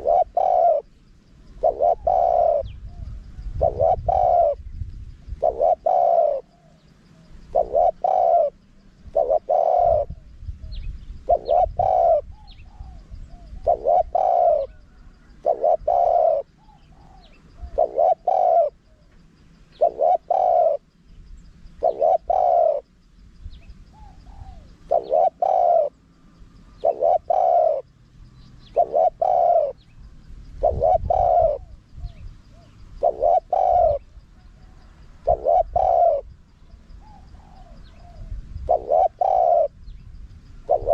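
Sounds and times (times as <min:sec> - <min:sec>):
dove cooing: 0:00.0 - 0:21.0, 0:21.7 - 0:22.9, 0:23.7 - 0:39.9, 0:40.5 - 0:40.9.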